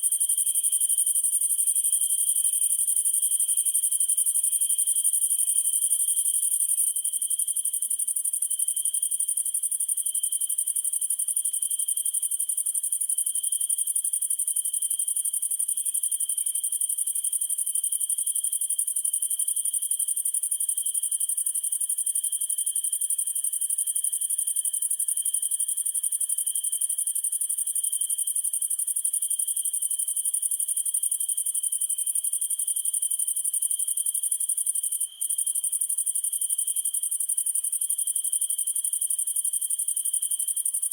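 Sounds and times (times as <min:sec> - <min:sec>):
lower insect song: 0:00.0 - 0:40.9.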